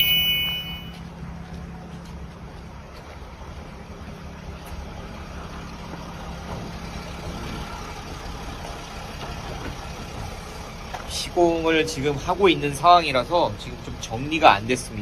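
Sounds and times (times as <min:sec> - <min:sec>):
van engine idling: 0:01.1 - 0:15.0.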